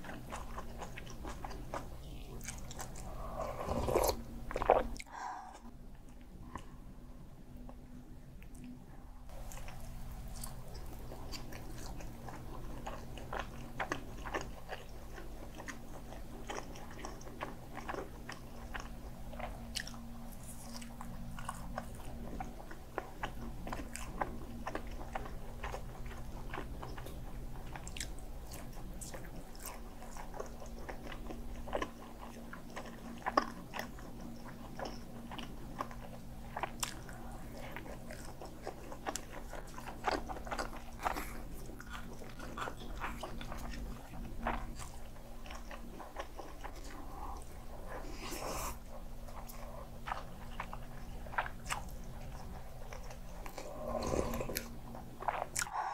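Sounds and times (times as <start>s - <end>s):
chewing and biting sausage: 0.0s - 5.1s, 9.3s - 55.9s.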